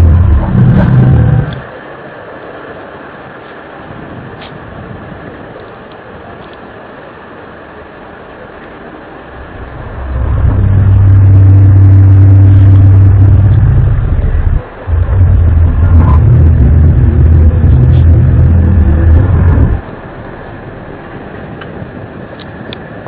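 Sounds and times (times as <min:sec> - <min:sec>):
loud low steady drone: 0:00.0 - 0:03.2, 0:07.2 - 0:23.0.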